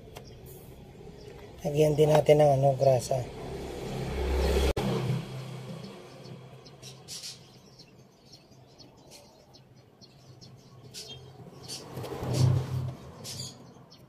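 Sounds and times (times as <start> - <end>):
small birds chirping: 0.0 - 4.7, 5.4 - 14.0.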